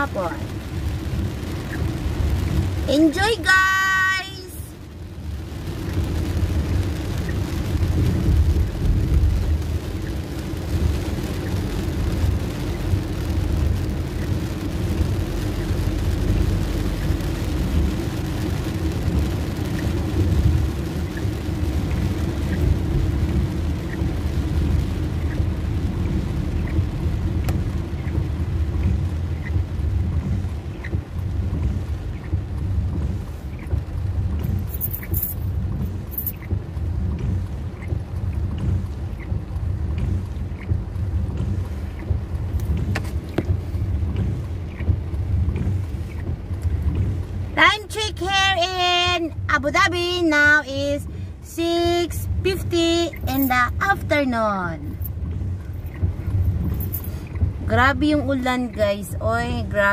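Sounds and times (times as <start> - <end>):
car engine and tyres rumbling: 0.0 - 59.9
rain hissing on car: 0.0 - 59.9.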